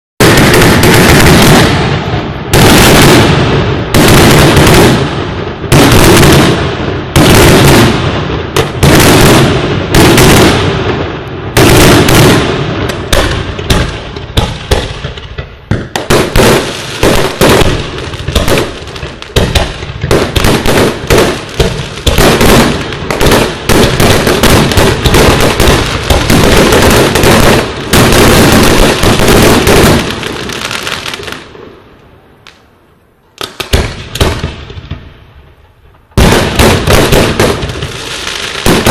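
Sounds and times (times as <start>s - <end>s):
fireworks bangs and crackling: 0.2s - 38.9s.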